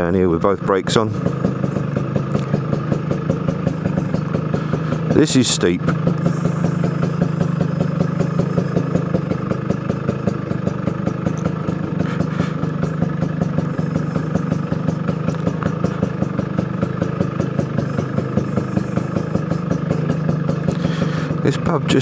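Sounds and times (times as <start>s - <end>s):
two-stroke motorcycle engine idling: 0.0s - 22.0s.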